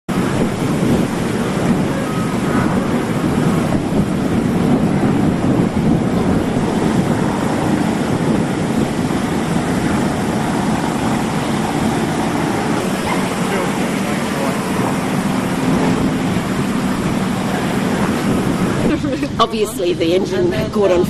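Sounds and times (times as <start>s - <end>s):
boat engine and pump rumble: 0.0s - 21.0s
hose water spraying: 0.1s - 19.3s.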